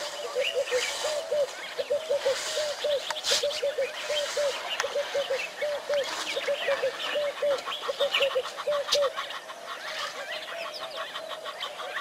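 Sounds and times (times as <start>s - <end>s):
bird calling in low arched notes: 0.0s - 12.0s.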